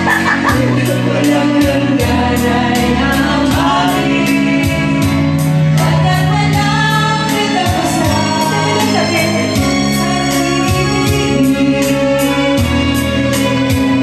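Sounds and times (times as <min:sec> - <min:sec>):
karaoke backing track: 0:00.0 - 0:14.0
women singing karaoke: 0:00.0 - 0:14.0.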